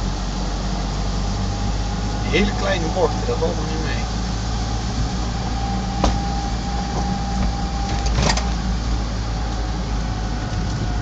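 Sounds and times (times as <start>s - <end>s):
car engine and road noise: 0.0s - 11.0s
faint whine: 0.0s - 11.0s.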